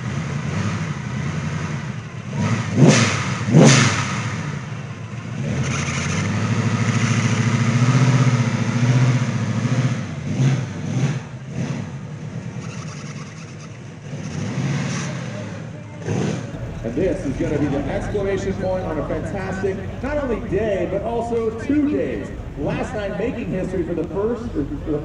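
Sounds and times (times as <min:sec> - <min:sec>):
car engine revving hard: 0:00.0 - 0:12.3, 0:16.6 - 0:25.0.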